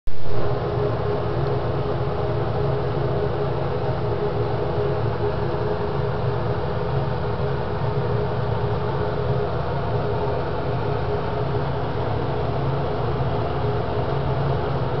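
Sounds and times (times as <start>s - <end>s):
steady mechanical hum with hiss: 0.1s - 15.0s.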